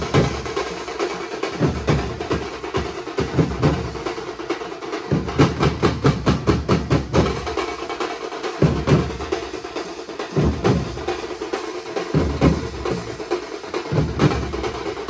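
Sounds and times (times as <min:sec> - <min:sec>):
deep drum beats: 0:00.0 - 0:08.0, 0:08.6 - 0:15.0
drum band playing fast rhythm: 0:00.0 - 0:15.0.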